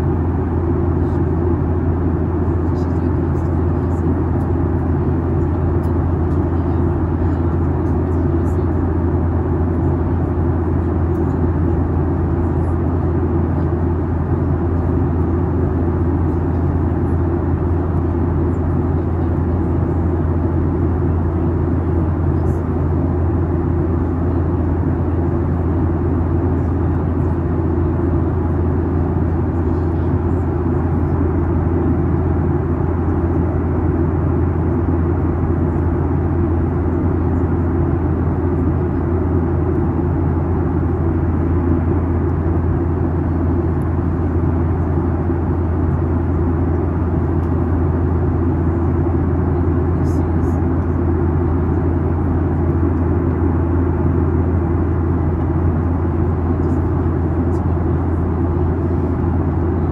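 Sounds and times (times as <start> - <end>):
jet engine drone: 0.0 - 59.9.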